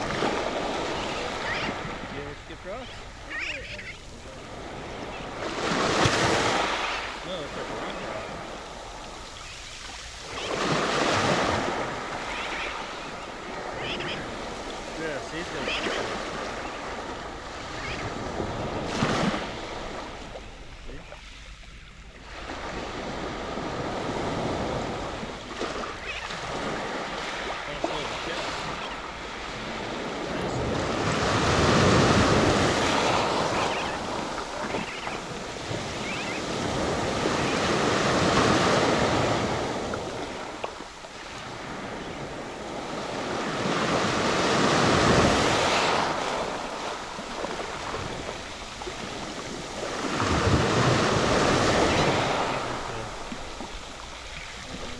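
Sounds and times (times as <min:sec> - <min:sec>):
small waves washing on beach: 0:00.0 - 0:54.9.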